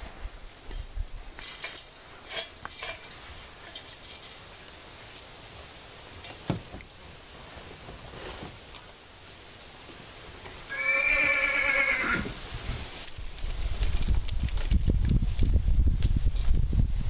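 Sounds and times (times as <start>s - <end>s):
dry twigs rustling: 0.0s - 17.0s.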